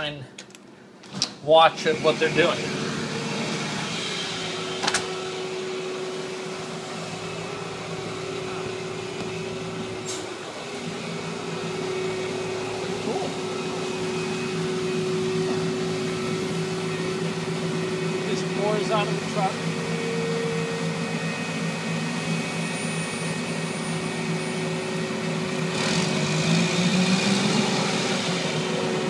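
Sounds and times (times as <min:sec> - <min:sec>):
diesel engines humming: 0:00.0 - 0:29.0.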